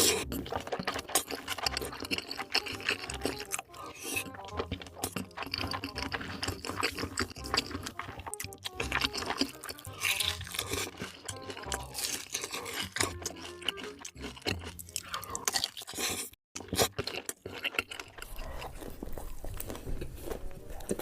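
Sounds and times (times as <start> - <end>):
crunching and chewing food: 0.0 - 21.0.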